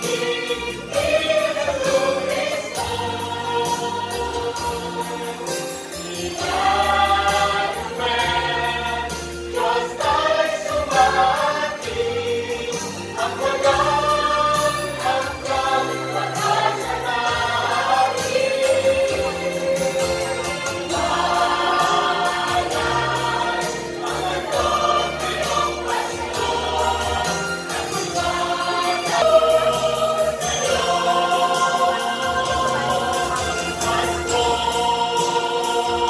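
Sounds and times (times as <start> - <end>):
choir singing a carol: 0.0 - 36.0
instrumental accompaniment: 0.0 - 36.0.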